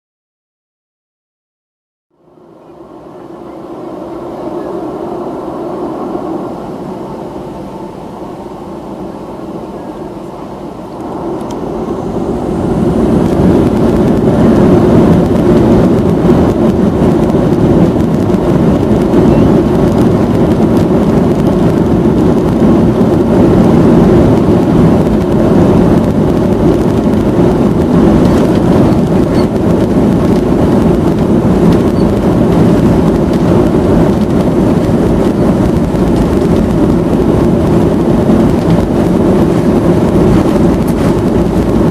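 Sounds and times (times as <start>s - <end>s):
jet engines roaring: 2.2s - 41.9s.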